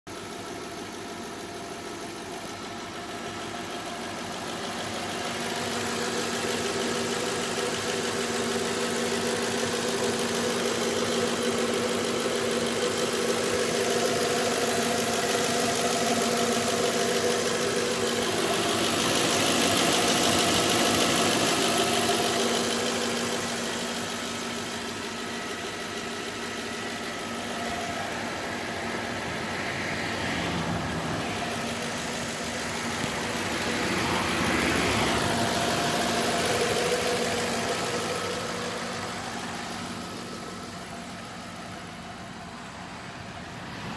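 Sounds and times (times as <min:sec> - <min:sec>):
car engine running: 0:00.1 - 0:43.9.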